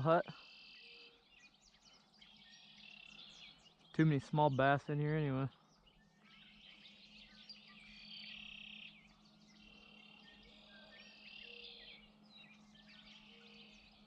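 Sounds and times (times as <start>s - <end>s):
buzzy bird trills: 0.0s - 14.0s
steady low hum: 0.0s - 14.0s.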